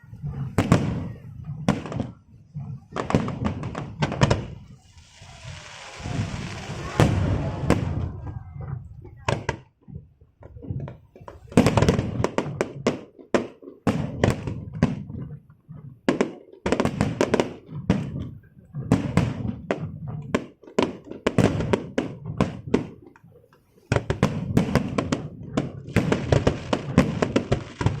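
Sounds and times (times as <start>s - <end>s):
fireworks cracks and bangs: 0.0s - 28.0s.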